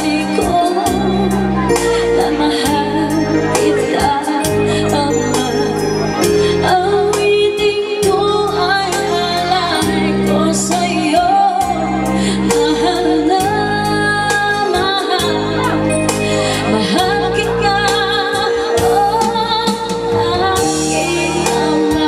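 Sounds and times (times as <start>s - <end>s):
held bass notes: 0.0s - 22.0s
woman singing: 0.0s - 22.0s.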